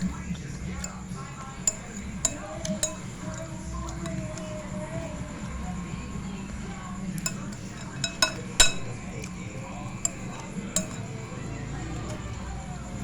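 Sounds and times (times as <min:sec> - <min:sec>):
spoon clinking against bowl: 0:00.0 - 0:13.0
steady low hum: 0:00.0 - 0:13.0.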